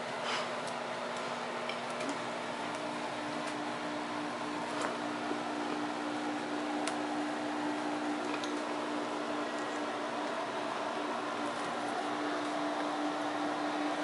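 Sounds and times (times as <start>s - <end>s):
machine hum with fan noise: 0.0s - 14.0s.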